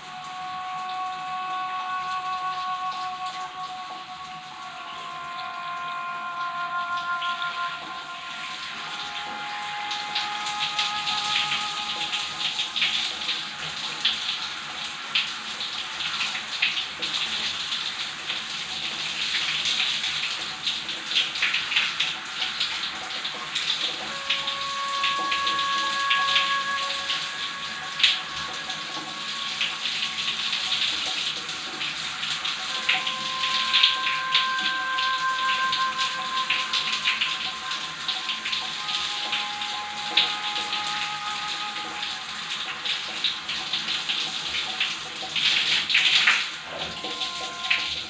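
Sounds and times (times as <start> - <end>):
shower water splashing: 0.0 - 48.0.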